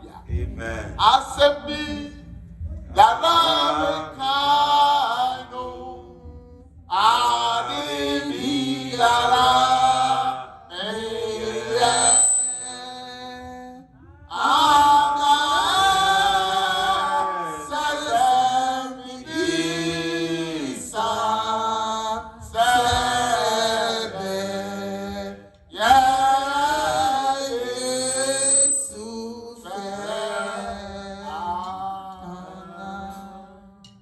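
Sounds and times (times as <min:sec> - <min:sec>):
person singing slow chant: 0:00.0 - 0:34.0.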